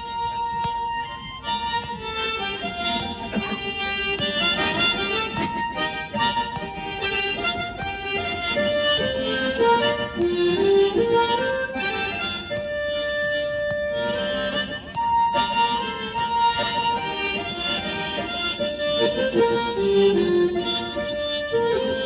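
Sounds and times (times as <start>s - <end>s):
harmonica melody: 0.0s - 22.0s.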